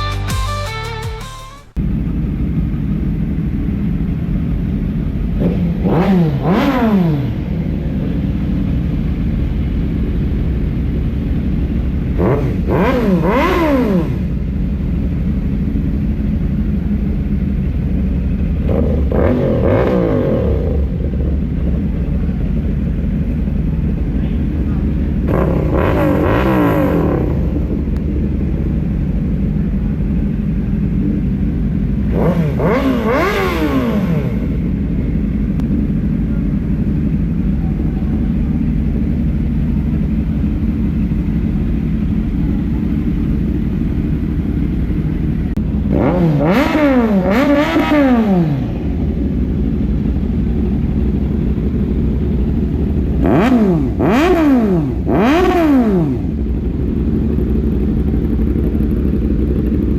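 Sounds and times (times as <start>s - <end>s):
motorcycle engine idling: 0.0s - 59.9s
motorcycle throttle blips: 1.6s - 59.9s.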